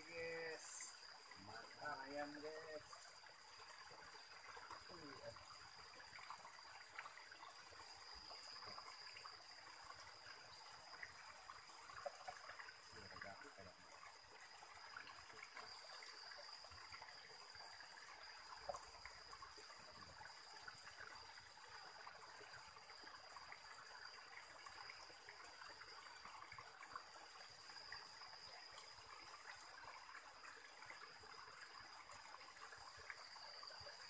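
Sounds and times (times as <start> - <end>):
river water trickling over rocks: 0.0 - 34.0.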